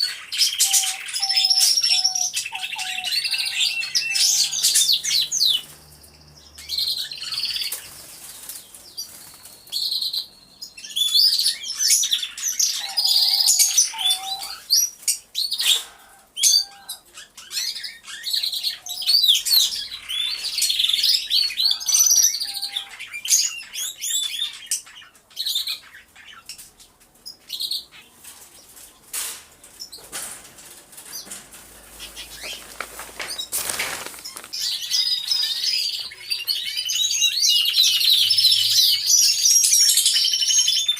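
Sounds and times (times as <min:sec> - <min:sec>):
canaries singing: 0:00.0 - 0:40.9.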